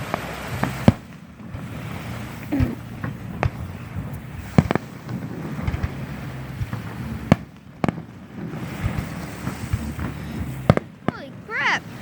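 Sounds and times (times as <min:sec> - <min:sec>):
faint fireworks pops: 0:00.0 - 0:12.0
fireworks bangs: 0:00.0 - 0:12.0.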